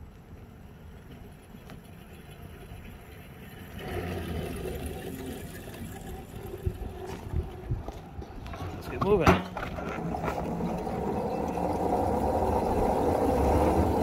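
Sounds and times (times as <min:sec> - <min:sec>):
small locomotive engine idling: 0:00.0 - 0:09.0, 0:09.7 - 0:14.0.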